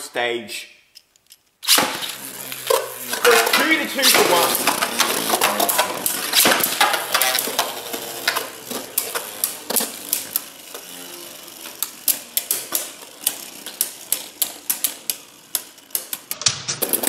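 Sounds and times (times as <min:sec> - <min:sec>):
spinning tops clicking together: 0:01.0 - 0:17.0.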